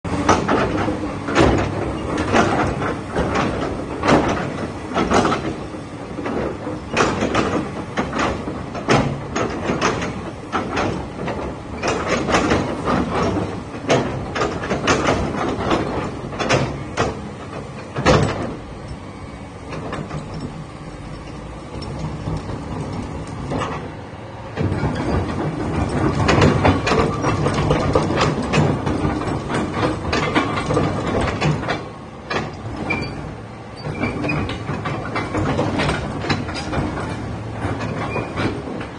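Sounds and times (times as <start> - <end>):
excavator diesel engine: 0.1 - 38.9.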